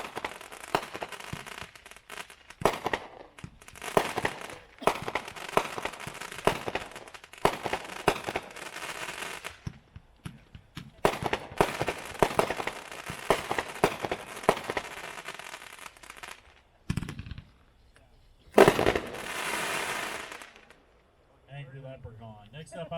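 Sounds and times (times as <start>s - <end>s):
firework crackling: 0.0s - 21.3s
firework sharp reports: 0.0s - 22.7s.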